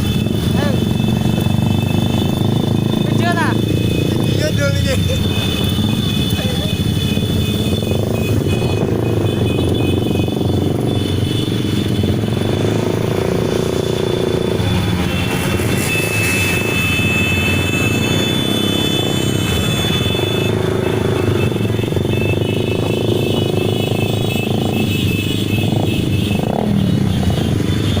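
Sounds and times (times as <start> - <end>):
motorcycle engines running: 0.0 - 28.0.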